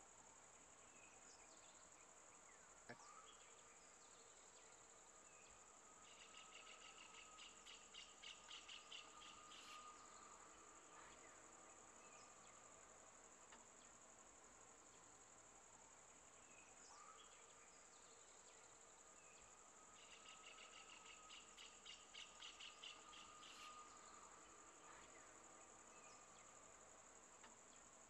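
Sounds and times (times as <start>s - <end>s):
insects high-pitched drone: 0.0s - 28.0s
quick insect chirps: 0.4s - 28.0s.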